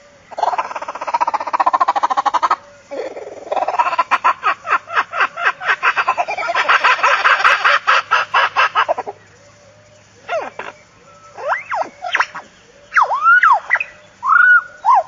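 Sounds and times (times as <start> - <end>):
animal calling: 0.3 - 9.2, 10.1 - 15.0.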